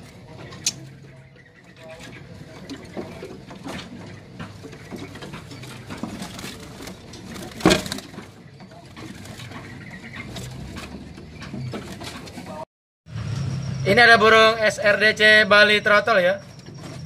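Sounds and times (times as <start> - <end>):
caged songbirds chirping: 0.0 - 17.0.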